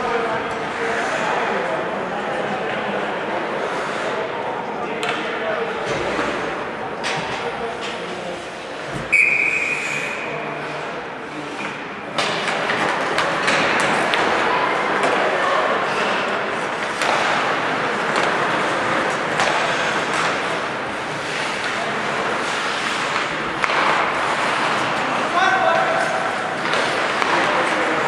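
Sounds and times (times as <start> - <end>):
arena crowd voices: 0.0 - 28.0
skates scraping ice: 0.1 - 1.8, 3.4 - 4.3, 6.0 - 28.0
hockey sticks and puck clacking: 4.9 - 28.0.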